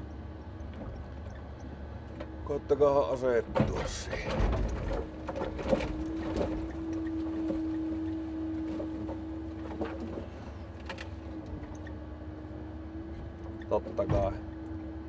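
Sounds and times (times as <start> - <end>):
hydraulic crane humming: 0.0 - 15.0
low engine rumble: 0.0 - 15.0.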